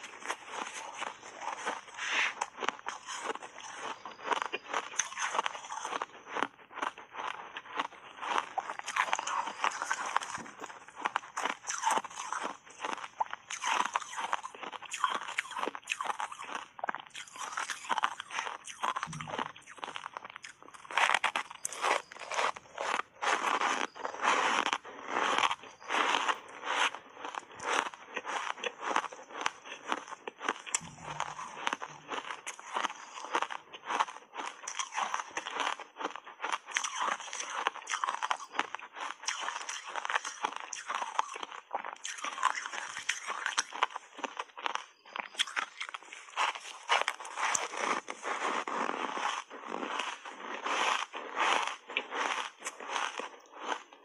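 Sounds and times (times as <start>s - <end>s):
chewing ice crunches: 0.0s - 54.0s.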